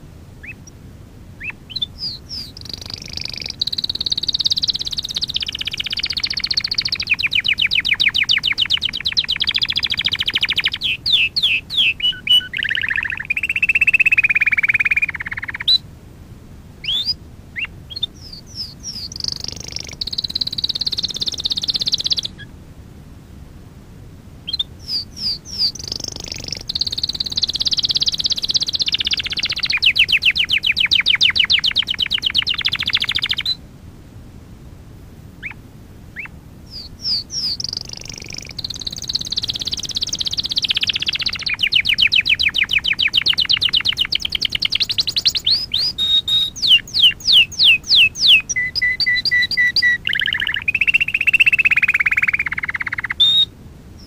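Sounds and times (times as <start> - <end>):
canary singing with trills: 0.0 - 0.8, 1.4 - 15.8, 16.8 - 22.5, 24.4 - 33.6, 35.4 - 35.6, 36.2 - 53.5.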